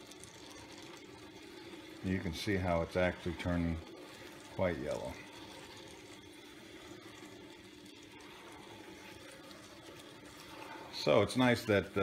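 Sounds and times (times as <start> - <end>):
popcorn popper oil sizzling: 0.0 - 12.0.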